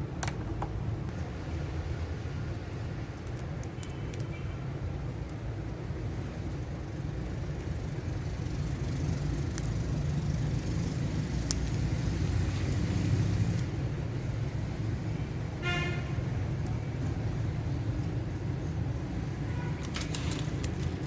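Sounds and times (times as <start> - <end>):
low rumble of road traffic: 0.0 - 21.0.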